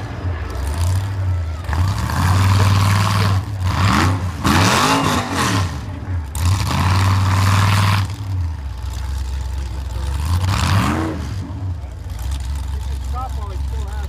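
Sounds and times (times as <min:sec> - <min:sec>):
buggy engine revving: 0:00.0 - 0:14.0.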